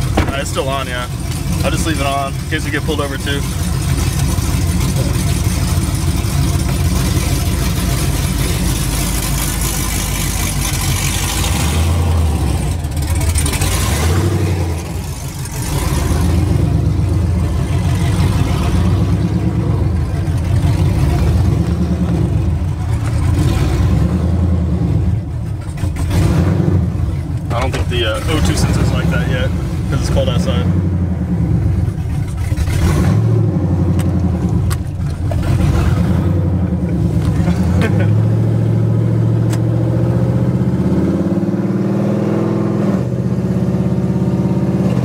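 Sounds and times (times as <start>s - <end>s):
loud harsh engine exhaust: 0.0s - 45.0s.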